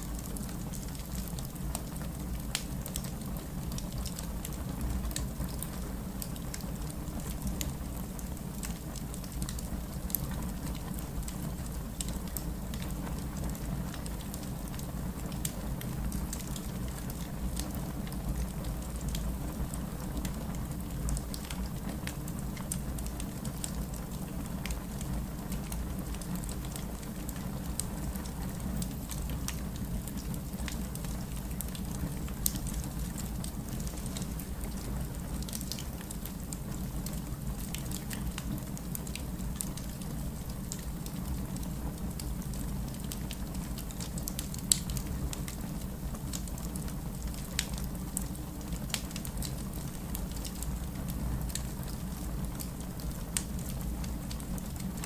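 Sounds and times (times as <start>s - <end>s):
fire crackling: 0.0s - 55.0s
low rumble of flames: 0.0s - 55.0s.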